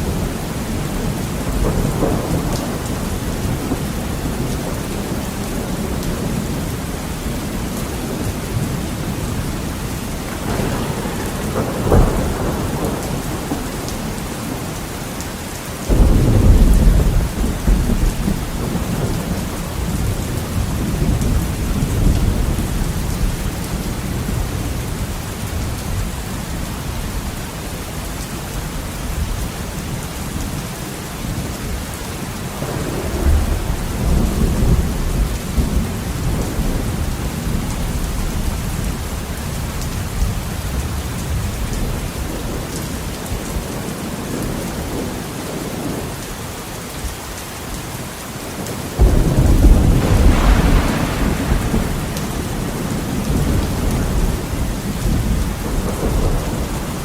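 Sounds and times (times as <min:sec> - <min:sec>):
thunder rumbling: 0:00.0 - 0:15.2, 0:15.8 - 0:27.4, 0:32.6 - 0:46.2, 0:48.6 - 0:57.0
heavy rain falling: 0:00.0 - 0:57.0.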